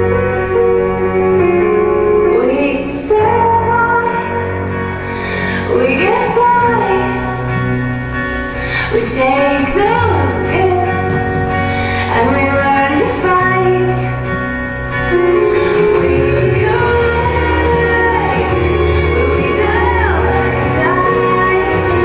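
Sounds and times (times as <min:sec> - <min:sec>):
steady bass line: 0:00.0 - 0:22.0
sustained chords: 0:00.0 - 0:22.0
woman singing: 0:02.3 - 0:07.6, 0:08.6 - 0:14.3, 0:15.1 - 0:22.0.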